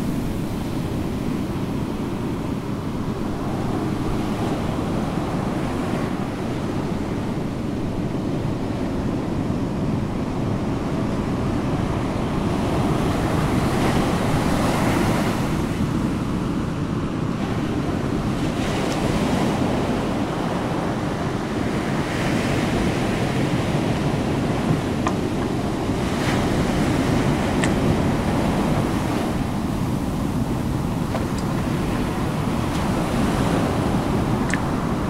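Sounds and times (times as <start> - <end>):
ocean waves washing: 0.0 - 35.0.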